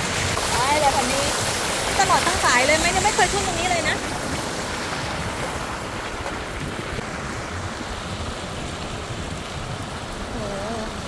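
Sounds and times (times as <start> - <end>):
heavy rain on wet road: 0.0 - 11.0
wind buffeting microphone: 0.0 - 11.0.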